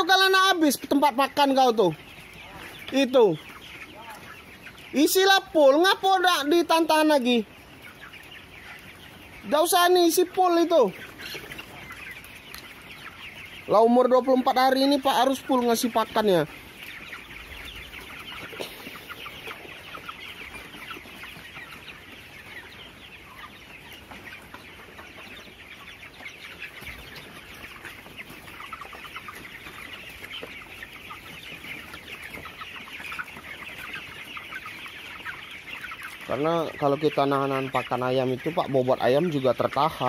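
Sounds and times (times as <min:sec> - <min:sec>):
chickens peeping and clucking: 0:00.0 - 0:40.0.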